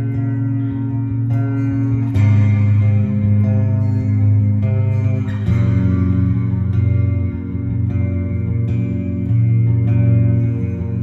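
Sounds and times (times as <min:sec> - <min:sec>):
plucked low bass note: 0:00.0 - 0:11.0.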